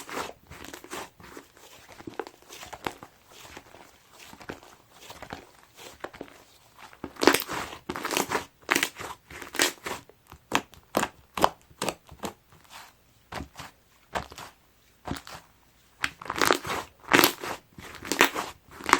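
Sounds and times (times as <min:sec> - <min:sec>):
hands squishing crunchy slime: 0:00.0 - 0:18.9.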